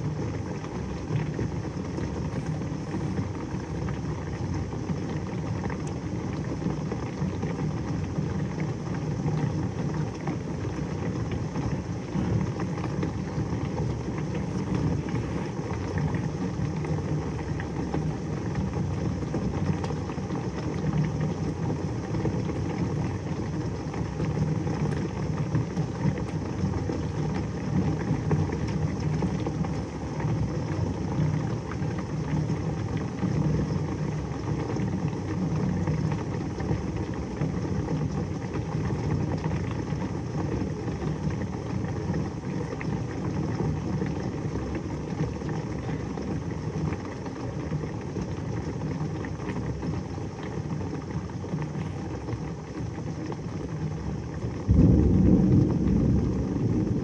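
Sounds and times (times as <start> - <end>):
heavy rain pouring: 0.0 - 47.5, 48.3 - 57.0.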